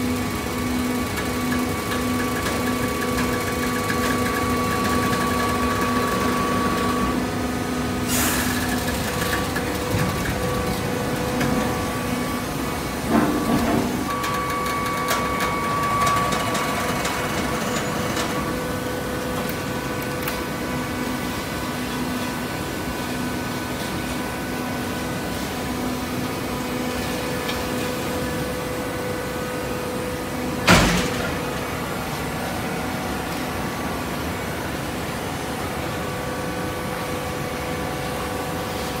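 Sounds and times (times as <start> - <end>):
hydraulic baler humming: 0.0 - 34.7.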